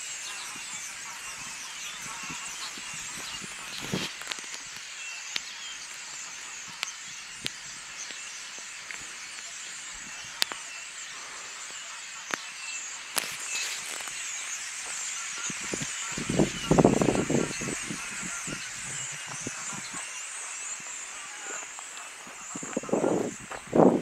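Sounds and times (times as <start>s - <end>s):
faint wavering chirps: 0.0s - 24.0s
steady high hiss: 0.0s - 24.0s.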